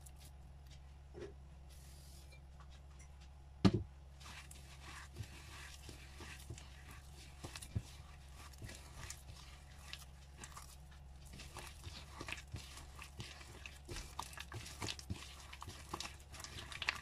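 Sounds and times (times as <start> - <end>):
hands kneading butter and sugar: 0.0 - 17.0
steady low hum: 0.0 - 17.0.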